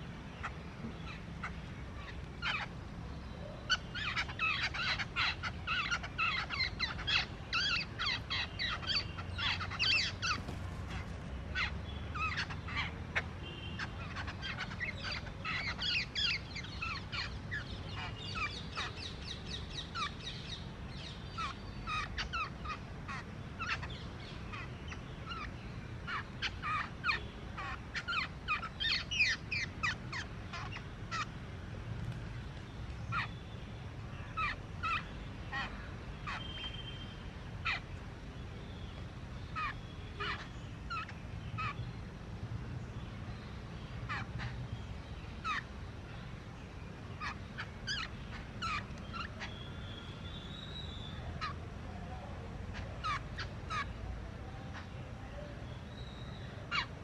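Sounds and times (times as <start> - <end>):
birds chattering squeaky calls: 0.0 - 31.5, 32.9 - 38.0, 38.7 - 42.2, 43.4 - 51.7, 52.6 - 54.0, 54.7 - 57.0.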